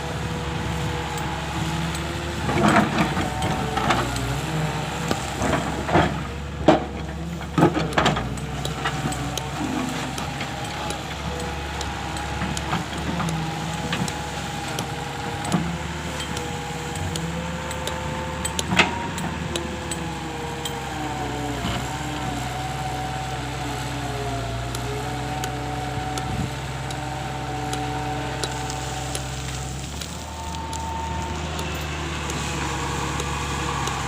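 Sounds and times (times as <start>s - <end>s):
excavator engine whining: 0.0s - 34.0s.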